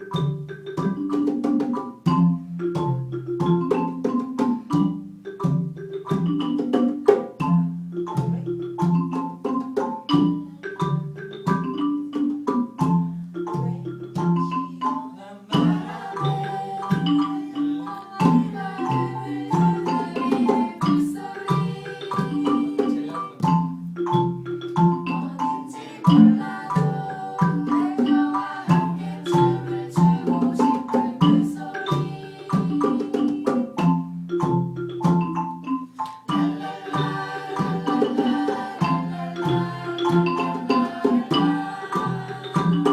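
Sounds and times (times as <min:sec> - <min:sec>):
xylophones and glockenspiel playing: 0:00.0 - 0:42.9.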